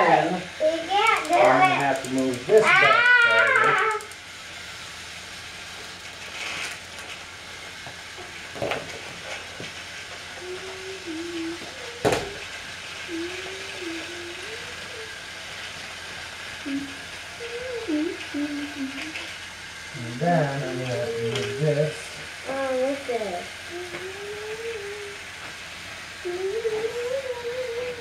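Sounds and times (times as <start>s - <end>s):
soft wavering hum: 0.0s - 28.0s
toy train engines whirring: 0.0s - 28.0s.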